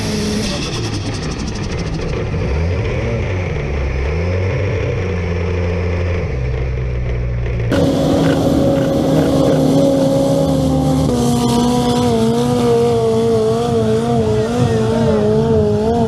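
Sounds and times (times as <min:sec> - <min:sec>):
buggy engine revving high: 0:00.0 - 0:16.0.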